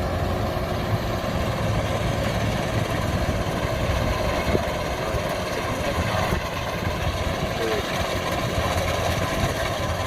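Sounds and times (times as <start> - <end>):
combine harvester diesel engine rumbling: 0.0 - 10.0.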